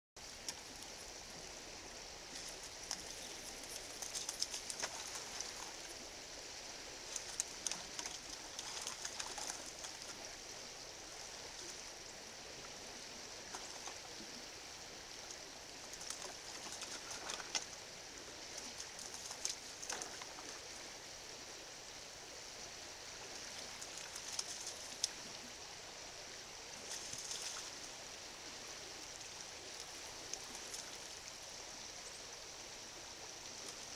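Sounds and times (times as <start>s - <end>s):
creek water hissing: 0.2s - 33.9s.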